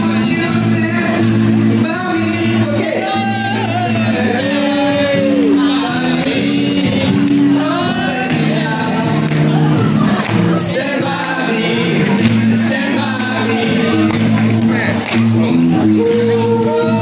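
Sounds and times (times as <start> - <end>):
acoustic guitar: 0.0 - 17.0
man singing into microphone: 0.0 - 17.0.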